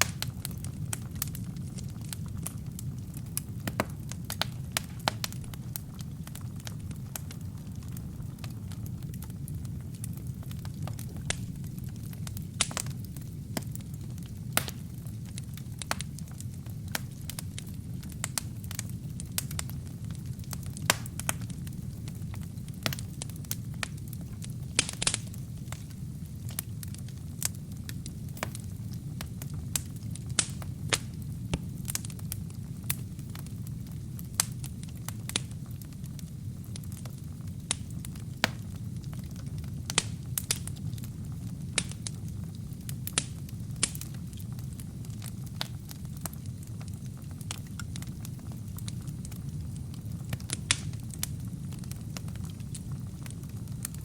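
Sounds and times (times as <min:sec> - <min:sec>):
low rumble of flames: 0:00.0 - 0:54.0
wood fire popping and crackling: 0:00.0 - 0:54.0.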